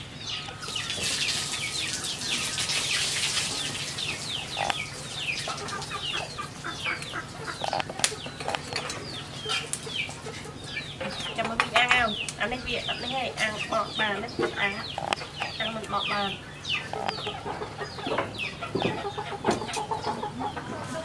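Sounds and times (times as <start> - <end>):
chickens chirping: 0.0 - 21.0.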